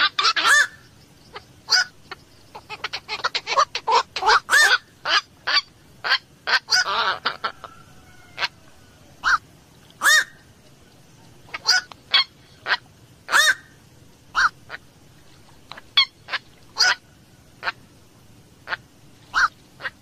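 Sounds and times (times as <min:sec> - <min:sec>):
heron croaking calls: 0:00.0 - 0:10.4, 0:11.5 - 0:14.9, 0:15.7 - 0:17.0, 0:17.6 - 0:17.8, 0:18.6 - 0:20.0.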